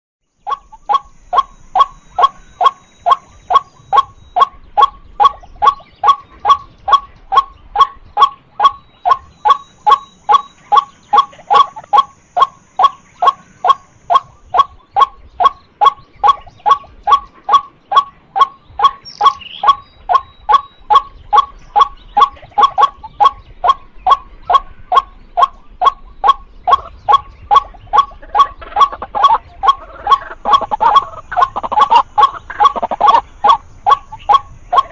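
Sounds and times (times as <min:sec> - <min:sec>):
waterhen calling: 0:00.5 - 0:34.9.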